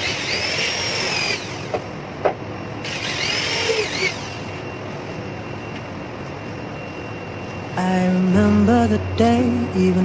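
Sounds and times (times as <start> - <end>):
electric drill motor whine: 0.0 - 10.0.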